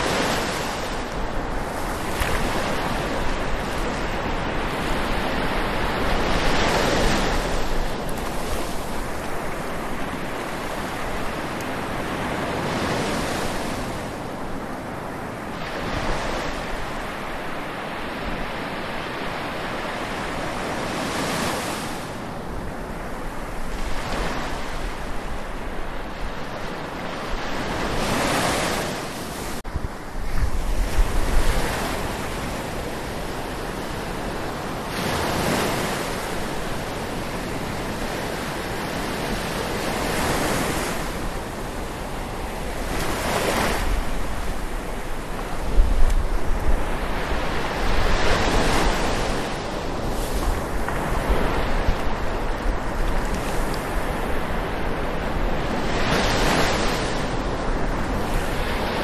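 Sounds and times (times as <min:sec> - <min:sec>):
ocean waves lapping on shore: 0:00.0 - 0:59.0
wind rumble on microphone: 0:00.0 - 0:59.0.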